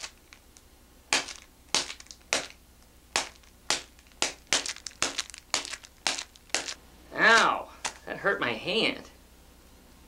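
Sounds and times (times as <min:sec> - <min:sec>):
hand smacking foil balloon pack: 0:00.0 - 0:08.1.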